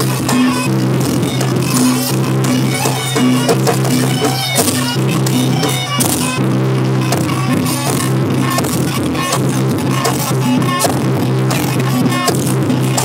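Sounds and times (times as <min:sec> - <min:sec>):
sharp drum strokes: 0:00.0 - 0:13.0.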